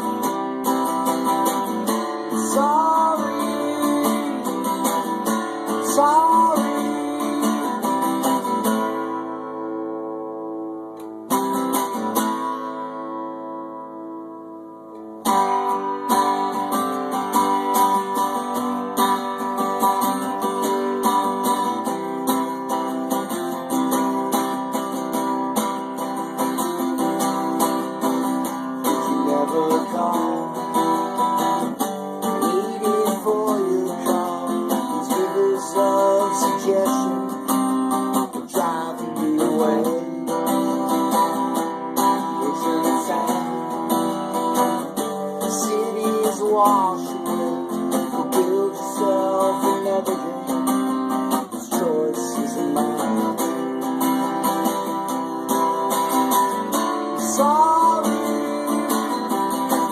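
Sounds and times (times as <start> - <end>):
guitar strumming chords: 0.0 - 59.9.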